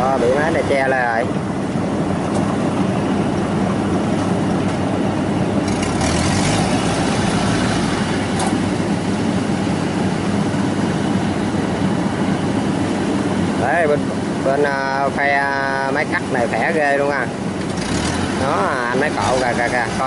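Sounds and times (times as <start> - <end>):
combine harvester engine and threshing: 0.0 - 20.0.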